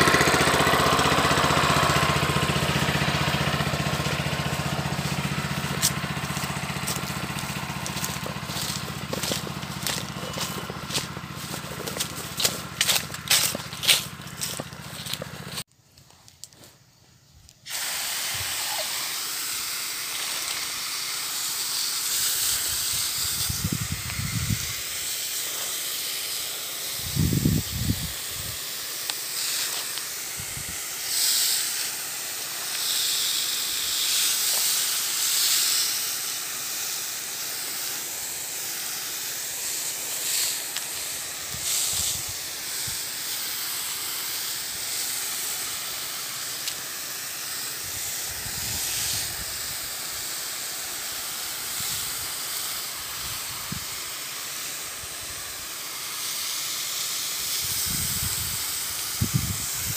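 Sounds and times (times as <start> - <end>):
pressure washer spray hissing: 0.0 - 15.7, 17.6 - 59.9.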